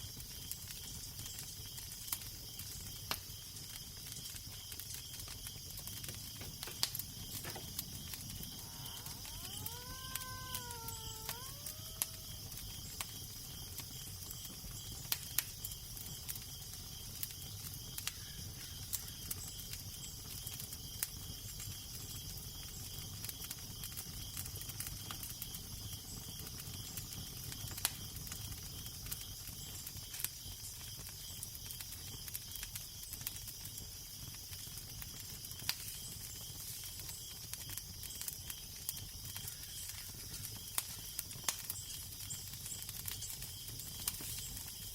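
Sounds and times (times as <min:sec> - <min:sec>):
fire popping: 0:00.0 - 0:18.1, 0:18.8 - 0:44.9
wood fire crackling: 0:00.0 - 0:18.1, 0:18.8 - 0:44.9.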